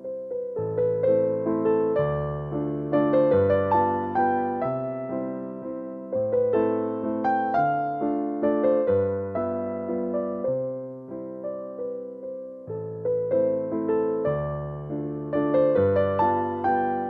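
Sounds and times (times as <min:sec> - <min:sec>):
soft piano melody: 0:00.0 - 0:17.0.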